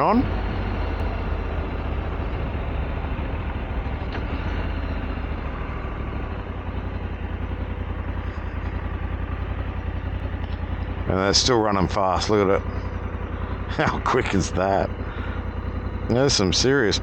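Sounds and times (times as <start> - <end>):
motorcycle engine throbbing: 0.0 - 17.0
road and wind noise: 0.0 - 17.0.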